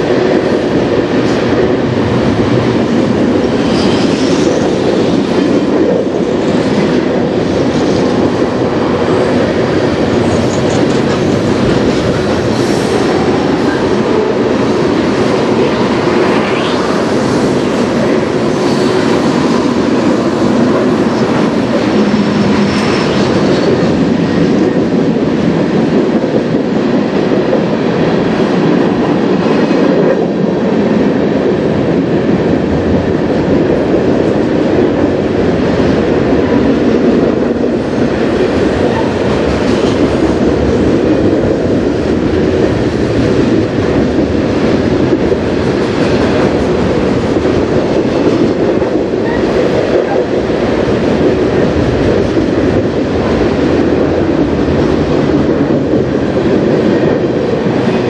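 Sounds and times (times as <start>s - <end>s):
freight train rolling past: 0.0s - 58.0s
train wheel clatter: 0.0s - 58.0s.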